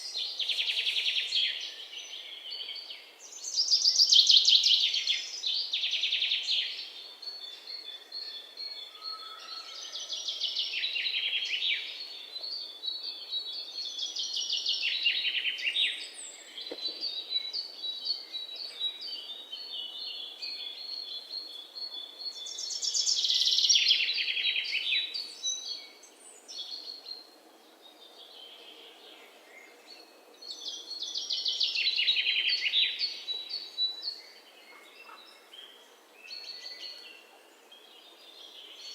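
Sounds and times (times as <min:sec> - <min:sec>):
songbird trill: 0:00.0 - 0:38.9.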